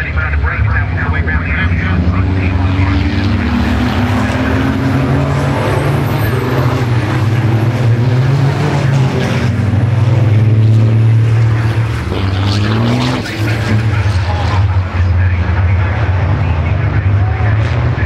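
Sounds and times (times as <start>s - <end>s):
race truck diesel engines: 0.0s - 18.0s.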